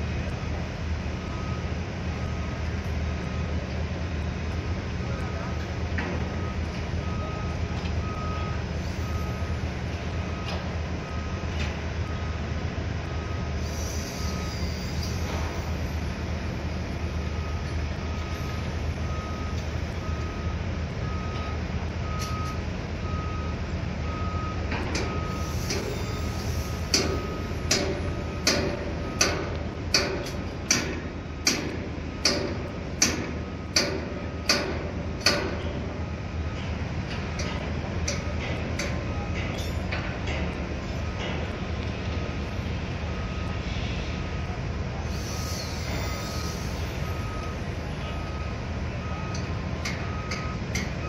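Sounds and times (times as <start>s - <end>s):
construction machinery rumbling: 0.0s - 51.0s
reversing alarm beeping: 0.2s - 51.0s.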